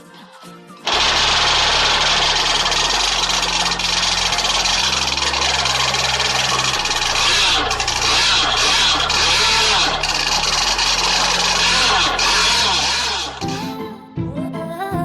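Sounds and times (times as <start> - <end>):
two-stroke engine buzzing at high revs: 0.9 - 13.4.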